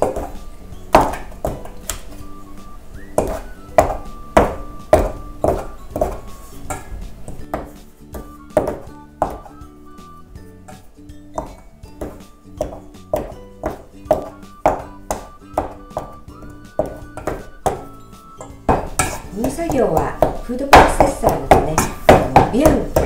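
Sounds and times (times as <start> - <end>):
soft background music: 0.0 - 23.0.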